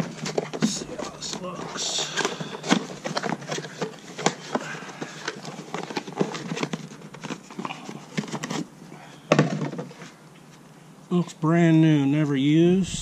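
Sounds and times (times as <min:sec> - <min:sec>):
cardboard rustling and scraping: 0:00.0 - 0:10.6.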